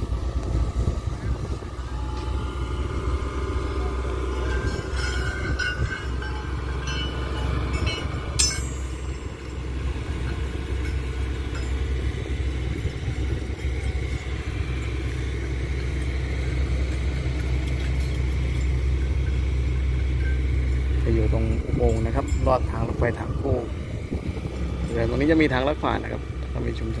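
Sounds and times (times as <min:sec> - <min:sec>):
excavator engine rumble: 0:00.0 - 0:27.0
metallic clanks: 0:03.5 - 0:26.6.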